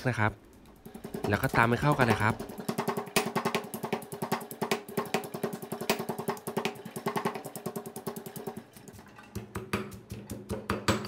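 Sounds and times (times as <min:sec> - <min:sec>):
pestle pounding in stone mortar: 0:00.7 - 0:11.0.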